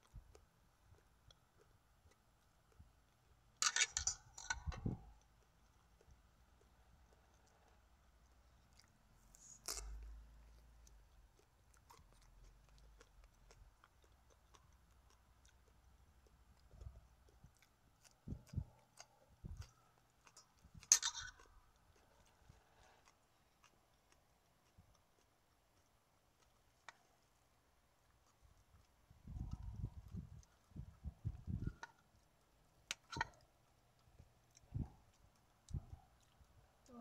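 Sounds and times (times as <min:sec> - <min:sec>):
faint chewing and crunching: 0:00.0 - 0:37.0.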